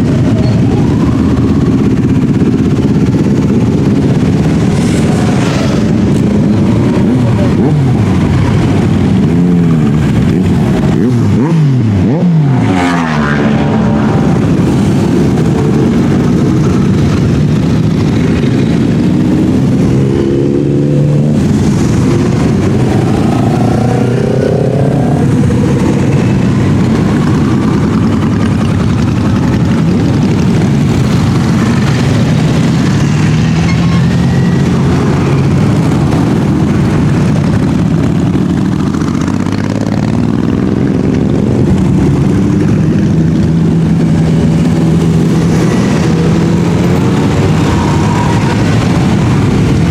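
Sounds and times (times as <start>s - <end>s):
motorcycle revving: 0.0s - 49.9s
motorcycles riding past: 0.0s - 49.9s.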